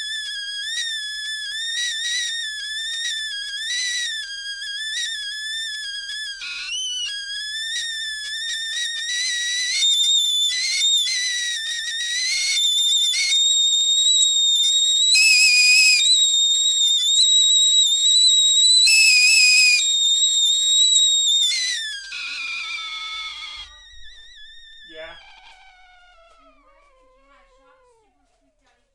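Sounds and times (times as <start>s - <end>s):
tea kettle whistling: 0.0s - 26.8s.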